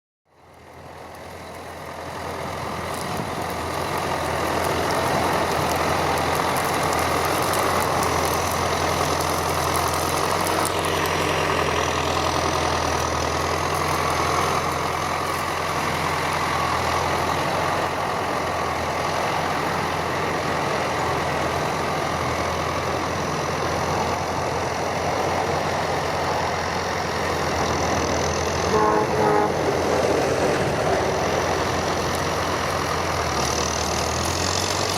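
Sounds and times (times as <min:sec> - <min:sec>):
round baler working: 0:00.3 - 0:34.9
tractor diesel engine running: 0:00.3 - 0:34.9.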